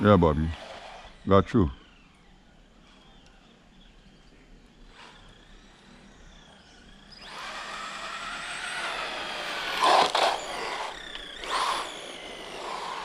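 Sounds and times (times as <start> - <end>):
rc car electric motor whine: 0.0 - 13.0.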